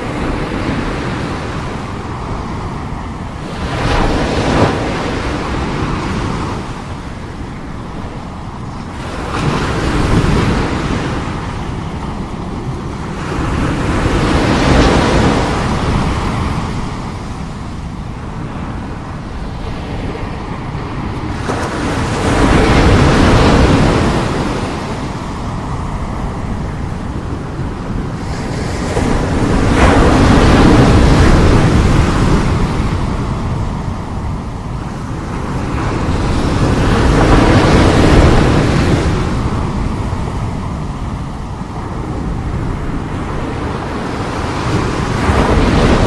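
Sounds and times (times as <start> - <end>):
sea waves breaking: 0.0 - 46.0
wind buffeting microphone: 0.0 - 46.0.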